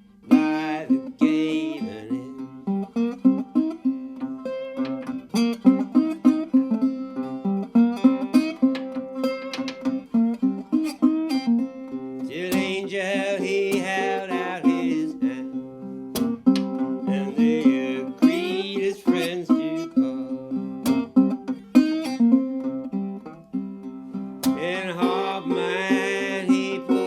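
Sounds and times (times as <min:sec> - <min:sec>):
slide resonator guitar blues: 0:00.0 - 0:27.0.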